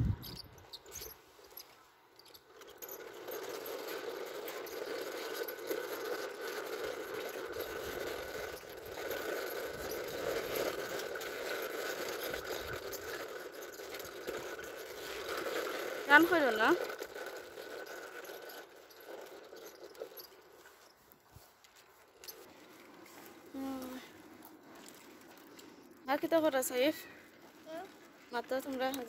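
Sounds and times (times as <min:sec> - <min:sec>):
small wheels rolling on concrete: 0:00.0 - 0:29.0.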